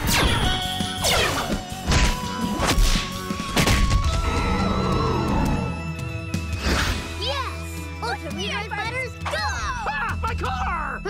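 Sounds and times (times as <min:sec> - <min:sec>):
action music: 0:00.0 - 0:11.0.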